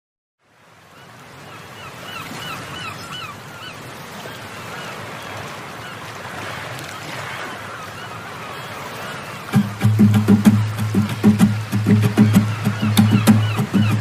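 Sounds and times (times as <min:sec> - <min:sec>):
bird calling: 0:01.5 - 0:06.1, 0:07.0 - 0:14.0.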